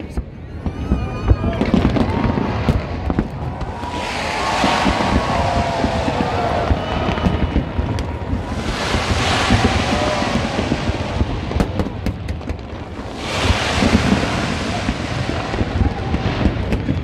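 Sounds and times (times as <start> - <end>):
fireworks rumble and crackle: 0.0 - 17.0
sharp firework cracks: 1.5 - 17.0.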